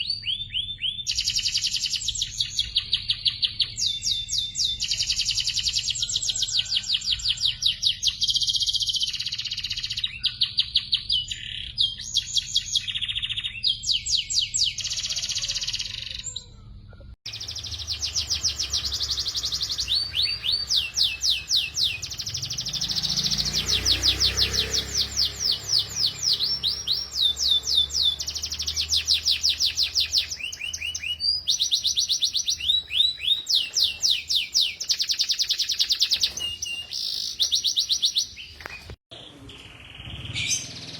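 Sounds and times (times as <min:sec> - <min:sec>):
canaries singing trills: 0:00.0 - 0:40.9.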